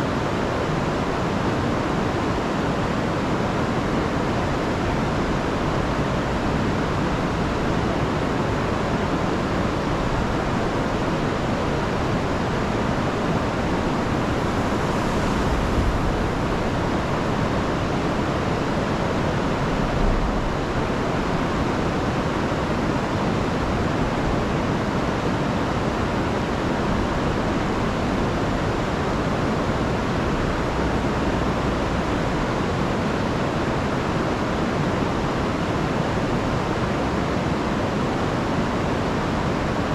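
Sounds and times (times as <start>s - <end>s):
river rushing over falls: 0.1s - 39.9s.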